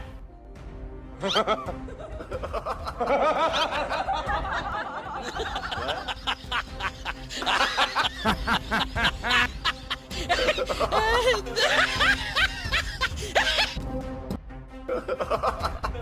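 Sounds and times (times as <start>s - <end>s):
background music: 0.0s - 16.0s
laughter: 1.2s - 13.8s, 14.9s - 16.0s.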